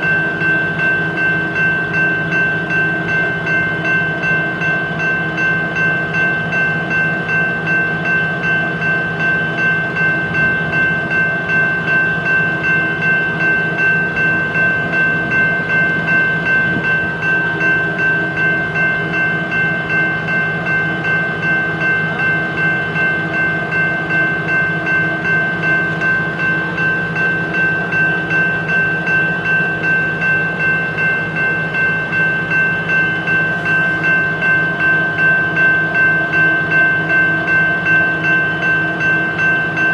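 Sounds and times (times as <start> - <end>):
diesel freight train running: 0.0 - 39.9.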